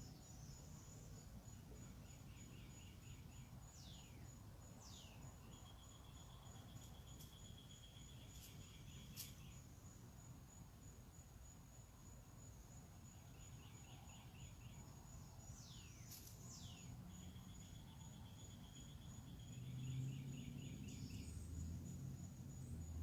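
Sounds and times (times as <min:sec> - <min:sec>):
insect pulsing chirp: 0:00.0 - 0:23.0.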